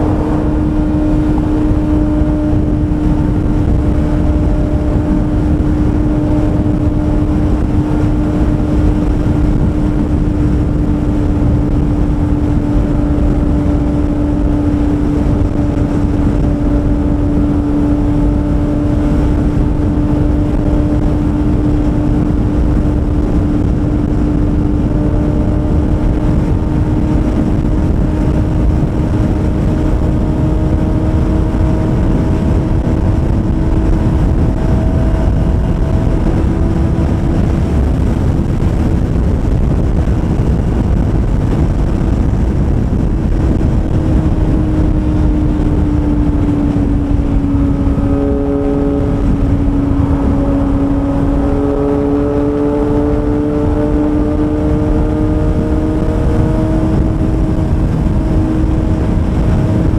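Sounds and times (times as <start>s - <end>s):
motorcycle engine at high speed: 0.0s - 59.9s
wind noise rushing: 0.0s - 59.9s.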